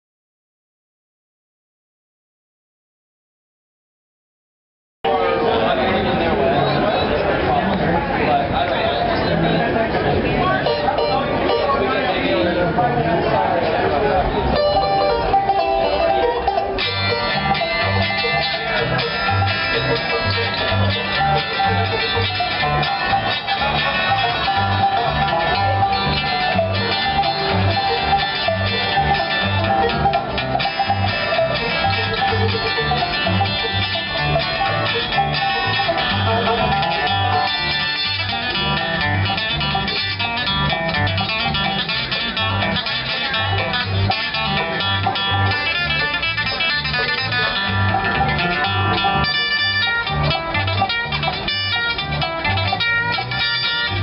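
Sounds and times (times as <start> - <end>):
banjo picking: 5.1 - 54.0
guitar picking: 5.1 - 54.0
pulsing bass line: 6.0 - 54.0.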